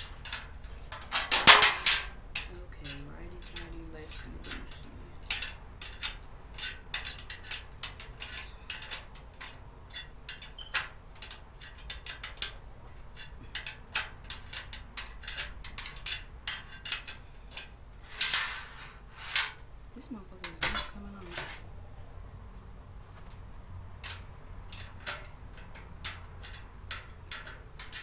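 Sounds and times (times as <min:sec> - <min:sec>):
metal wrench clinking on bolt: 0:00.0 - 0:19.6, 0:20.4 - 0:21.6, 0:24.0 - 0:28.0.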